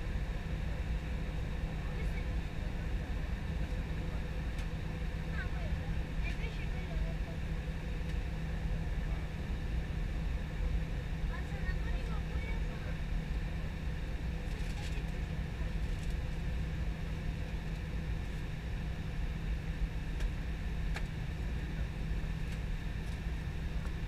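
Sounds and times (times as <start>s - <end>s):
airliner cabin engine drone: 0.0s - 24.0s.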